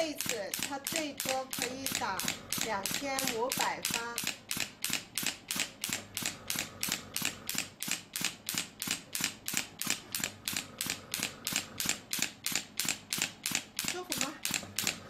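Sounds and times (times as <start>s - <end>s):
sharp clicking shots: 0.0s - 15.0s.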